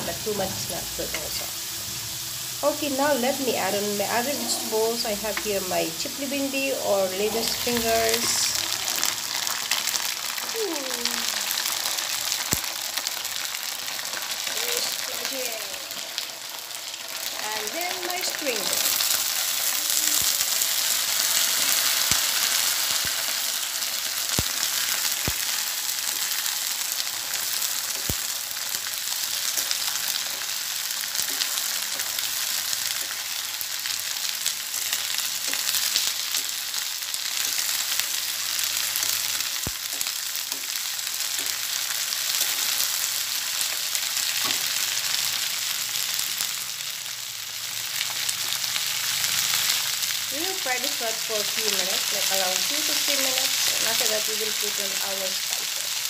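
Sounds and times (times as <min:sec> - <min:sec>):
vegetables sizzling in hot oil: 0:00.0 - 0:56.0.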